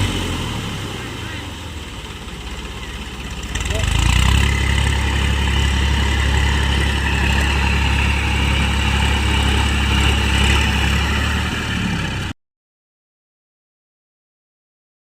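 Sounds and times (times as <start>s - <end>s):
tractor diesel engine running: 0.0s - 12.4s.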